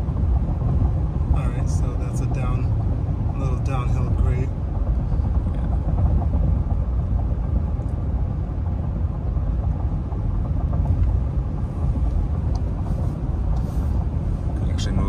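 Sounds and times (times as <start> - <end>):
road and tyre noise rumble: 0.0 - 15.0.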